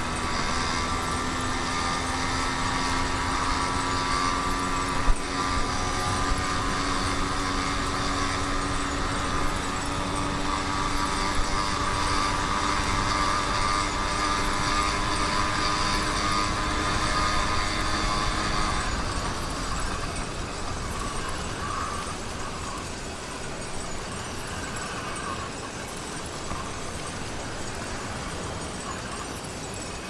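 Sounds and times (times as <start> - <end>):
two-stroke engine running: 0.0 - 30.0.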